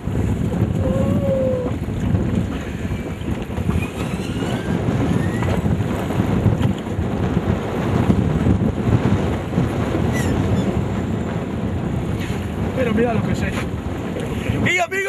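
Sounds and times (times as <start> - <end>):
choppy water around boat: 0.0 - 15.0
wind on microphone: 0.0 - 15.0.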